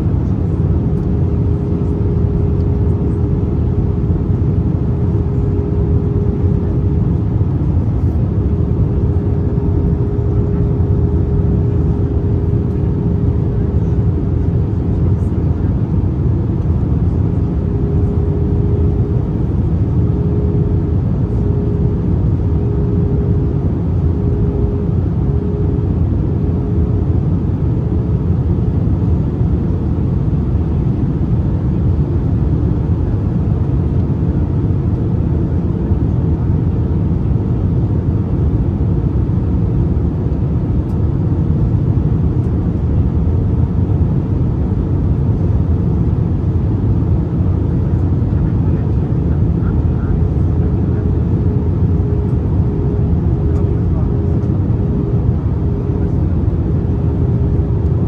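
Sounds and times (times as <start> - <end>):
aircraft engines rumbling: 0.0 - 58.0
faint hum: 0.0 - 58.0.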